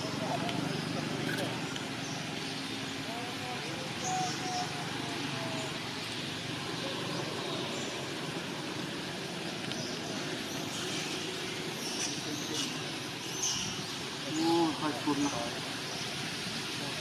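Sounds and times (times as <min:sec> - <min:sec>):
constant hiss over low hum: 0:00.0 - 0:17.0.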